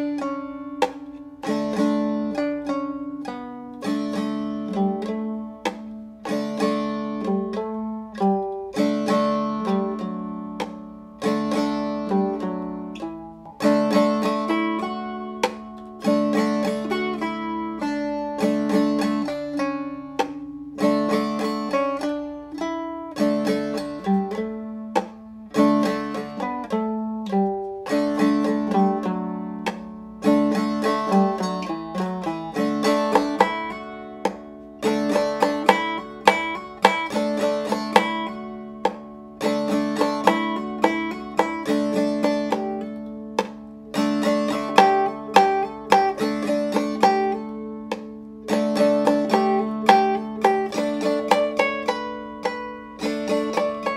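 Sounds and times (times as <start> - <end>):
plucked-string notes: 0.0 - 53.9.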